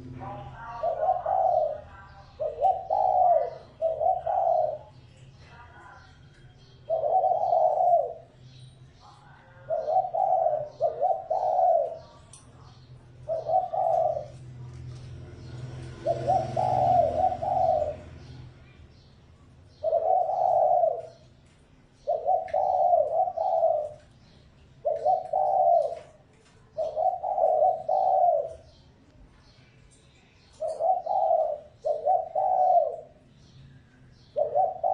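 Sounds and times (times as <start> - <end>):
dove cooing: 0.0 - 5.2, 6.8 - 8.5, 9.6 - 18.6, 19.6 - 28.9, 30.4 - 34.9.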